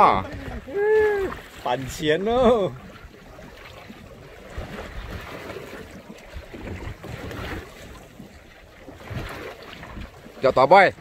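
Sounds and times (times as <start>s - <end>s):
water washing against boat hull: 0.0s - 11.0s.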